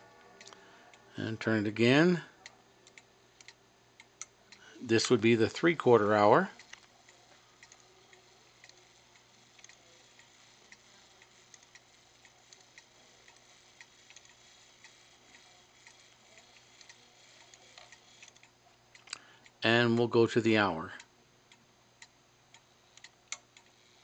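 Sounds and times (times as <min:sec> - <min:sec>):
clock ticking: 0:01.8 - 0:20.1, 0:20.9 - 0:23.8.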